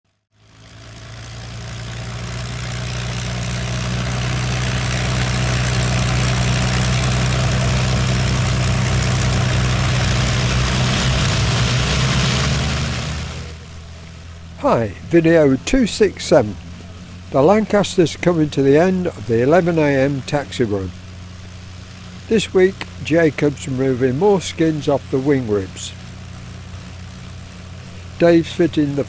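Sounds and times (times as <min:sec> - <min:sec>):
piston engines droning: 0:00.4 - 0:29.0
propeller wash rushing: 0:00.4 - 0:29.0.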